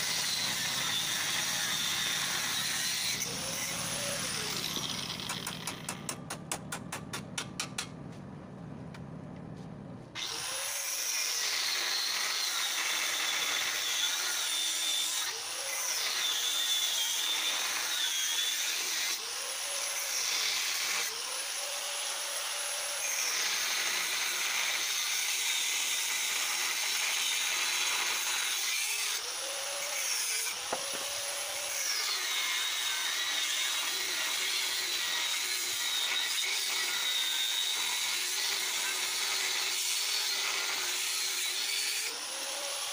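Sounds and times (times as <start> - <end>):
angle grinder cutting metal: 0.0 - 8.0, 10.2 - 42.9.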